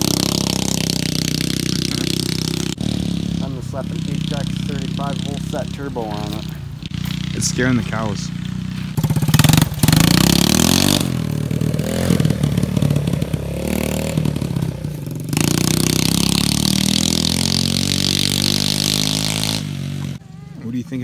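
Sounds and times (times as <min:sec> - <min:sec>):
quad engine revving: 0:00.0 - 0:21.0.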